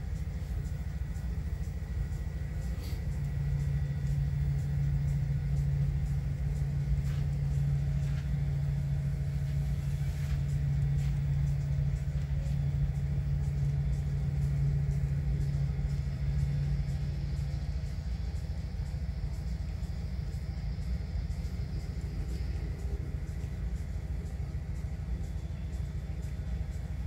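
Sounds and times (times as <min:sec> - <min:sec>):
diesel locomotive engine drone: 0:00.0 - 0:27.0
low rumble: 0:00.0 - 0:27.0.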